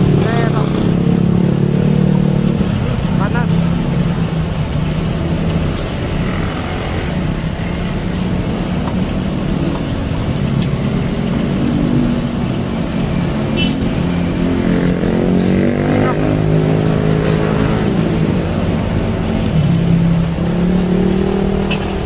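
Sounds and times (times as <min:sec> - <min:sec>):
engine speeding up: 0:00.0 - 0:22.0
road traffic: 0:00.0 - 0:22.0.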